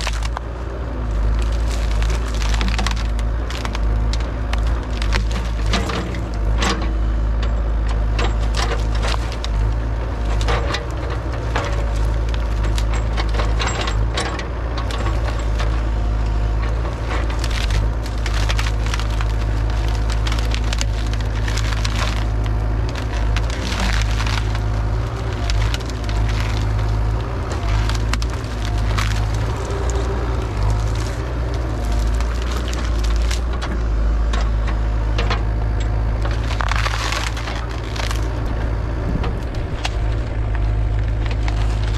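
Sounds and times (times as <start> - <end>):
excavator engine running: 0.0 - 41.9
wood cracking and splintering: 0.0 - 41.9.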